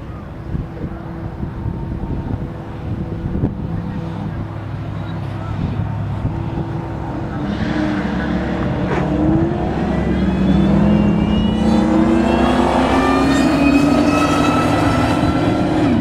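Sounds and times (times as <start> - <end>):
cars accelerating at full throttle: 0.0 - 16.0.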